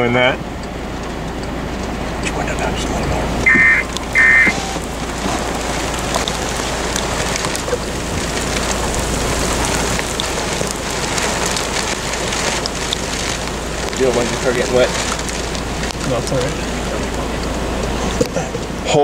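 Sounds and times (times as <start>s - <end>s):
raindrop ticks: 0.4s - 19.0s
rain and wind hiss: 0.8s - 19.0s.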